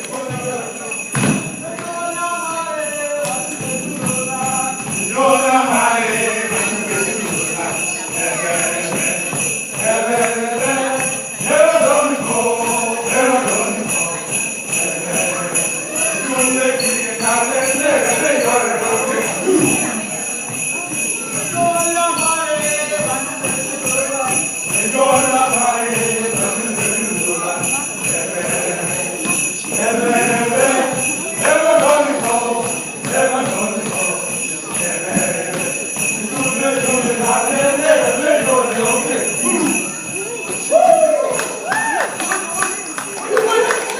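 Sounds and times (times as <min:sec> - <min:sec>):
bells jingling: 0:00.0 - 0:43.9
voices chanting together: 0:00.0 - 0:43.9.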